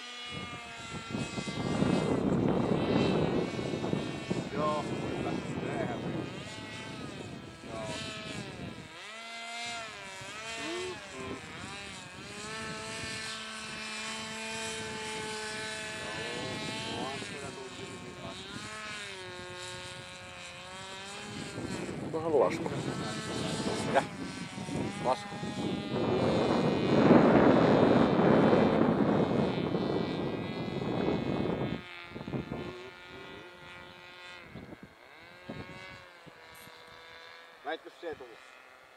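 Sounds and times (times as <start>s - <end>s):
model airplane motor whine: 0.0s - 38.9s.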